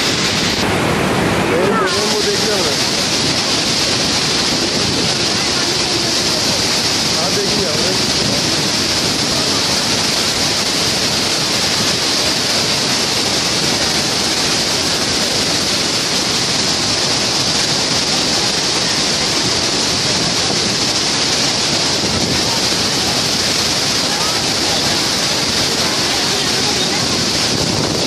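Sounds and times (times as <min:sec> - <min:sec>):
floodwater rushing through spillway: 0:00.0 - 0:28.0.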